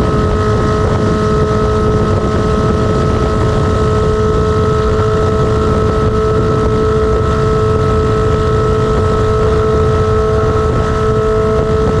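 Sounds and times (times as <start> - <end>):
motorcycle engine running loud: 0.0 - 12.0
wind noise on microphone: 0.0 - 12.0.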